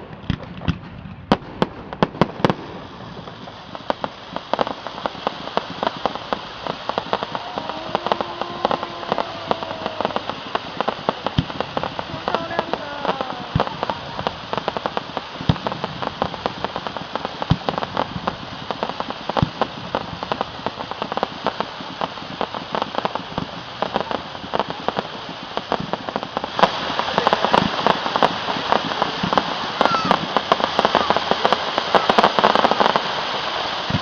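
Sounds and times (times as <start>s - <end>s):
deep firework bangs: 0.0s - 34.0s
fireworks crackling: 0.0s - 34.0s.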